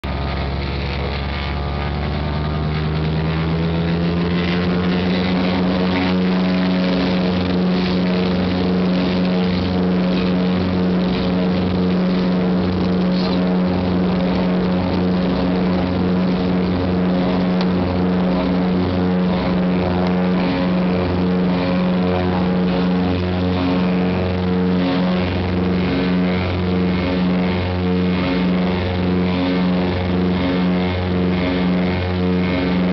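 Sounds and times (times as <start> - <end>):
propeller engines from cabin: 0.0 - 32.9.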